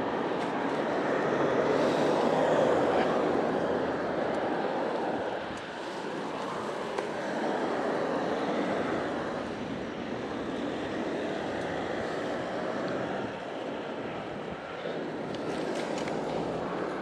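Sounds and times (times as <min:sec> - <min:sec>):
wind over microphone: 0:00.0 - 0:17.0.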